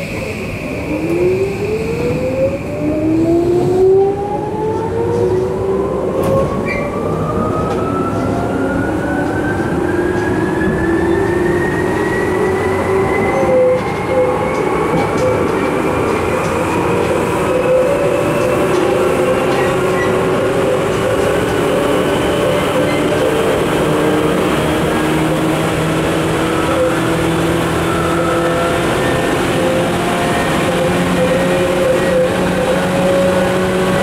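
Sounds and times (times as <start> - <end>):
wheels rumbling on rails: 0.0 - 34.0.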